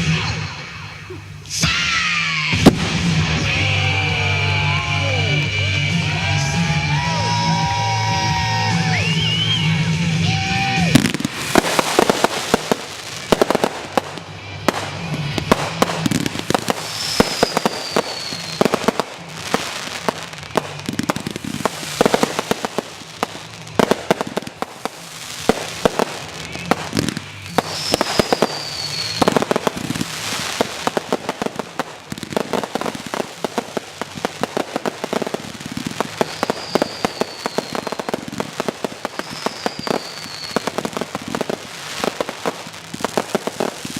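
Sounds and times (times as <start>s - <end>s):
fireworks bangs and crackling: 0.0s - 43.9s
music: 0.0s - 43.9s
falling firework whistle: 6.2s - 31.6s, 32.2s - 43.9s.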